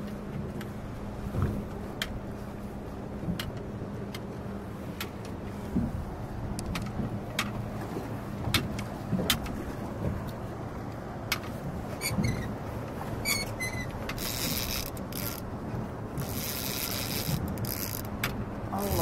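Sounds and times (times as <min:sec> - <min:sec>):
wind and water rumble: 0:00.0 - 0:19.0.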